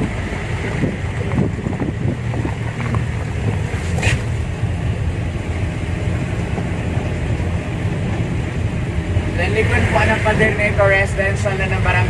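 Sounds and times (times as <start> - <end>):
wind noise on microphone: 0.0 - 10.6
vehicle engine rumbling: 0.0 - 12.0.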